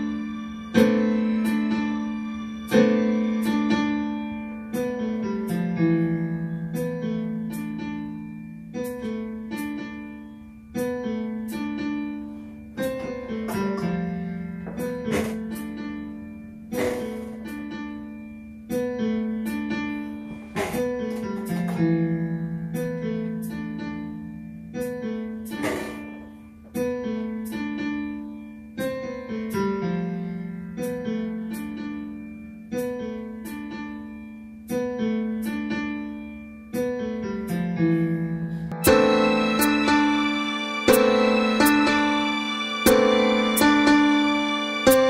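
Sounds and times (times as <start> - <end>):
slow piano chords: 0.0 - 45.0.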